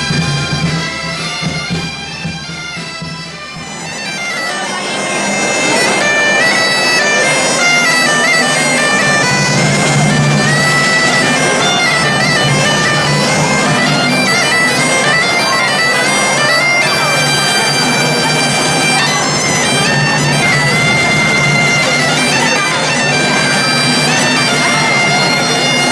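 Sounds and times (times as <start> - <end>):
reed pipes playing melody: 0.0 - 25.9.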